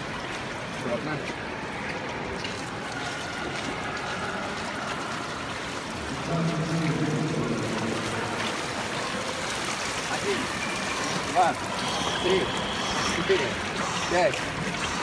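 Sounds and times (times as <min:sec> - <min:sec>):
pool water sloshing and splashing: 0:00.0 - 0:15.0.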